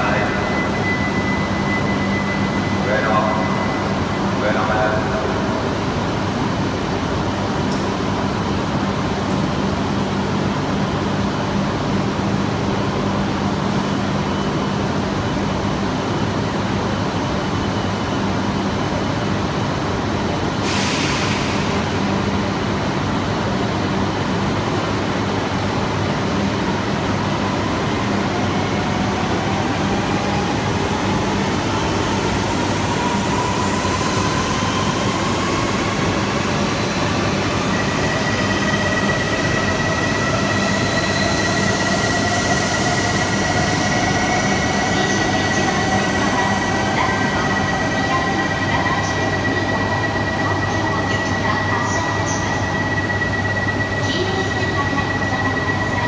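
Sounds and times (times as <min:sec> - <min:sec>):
train electric hum: 0:00.0 - 0:56.0.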